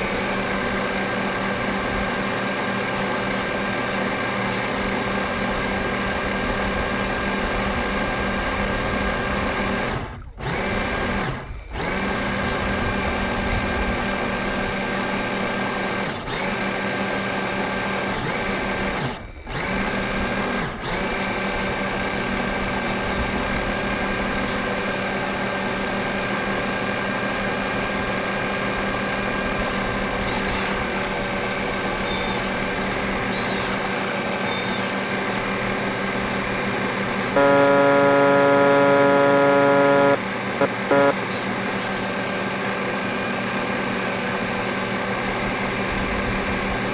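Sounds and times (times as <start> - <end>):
rc boat motor whining: 0.0 - 46.9.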